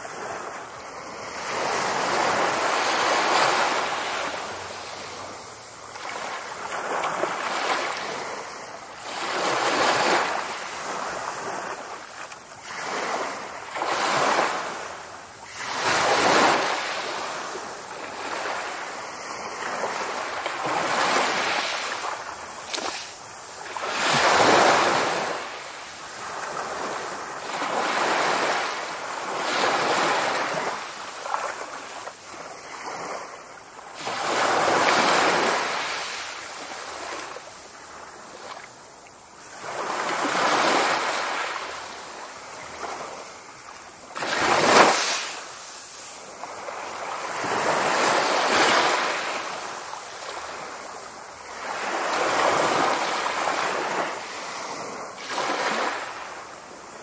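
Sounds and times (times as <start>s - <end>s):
small waves on sandy beach: 0.0s - 57.0s.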